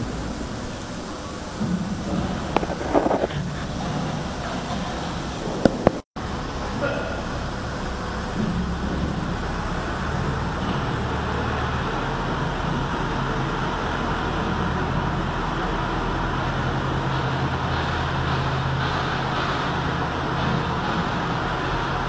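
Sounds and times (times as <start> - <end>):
sanding machine droning: 0.0 - 22.0.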